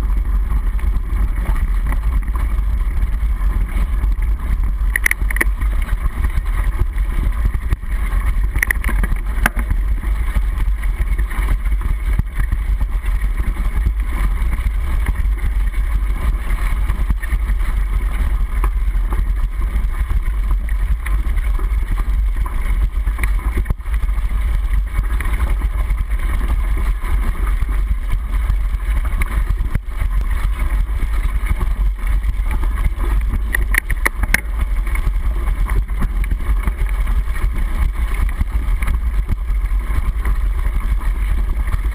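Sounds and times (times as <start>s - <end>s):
bike knocks and rattles: 0.0s - 41.9s
low rumble of wind: 0.0s - 41.9s.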